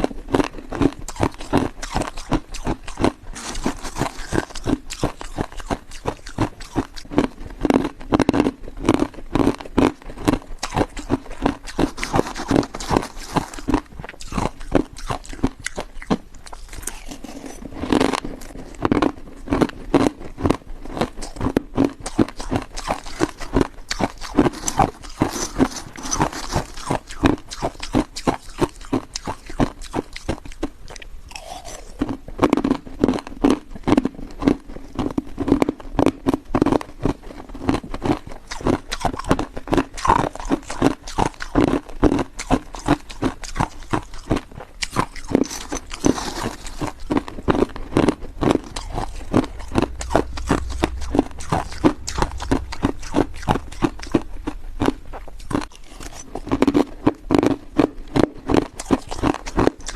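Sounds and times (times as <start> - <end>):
ice crunching being chewed: 0.0 - 59.9.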